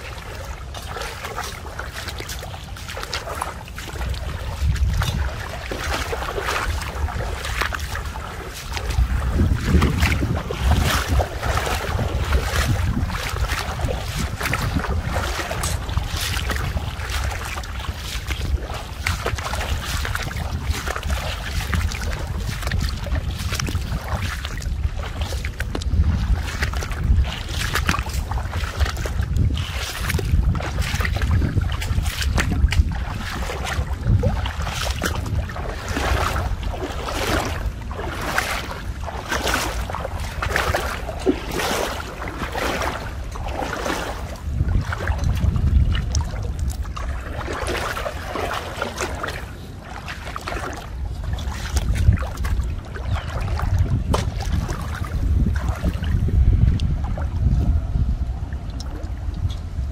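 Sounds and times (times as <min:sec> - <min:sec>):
wading through water splashing: 0:00.0 - 0:59.9
wind rumble on microphone: 0:00.0 - 0:59.9.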